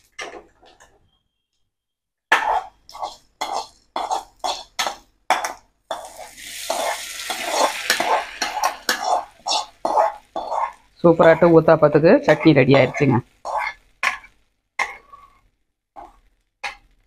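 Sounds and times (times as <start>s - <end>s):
spoon scraping metal pan: 2.4s - 16.9s
hot oil sizzling: 2.9s - 17.0s.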